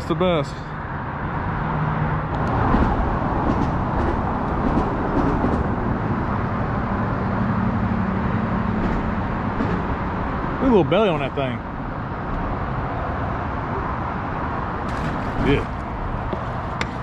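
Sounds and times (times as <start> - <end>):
tyres rumbling on bridge: 0.0 - 17.0.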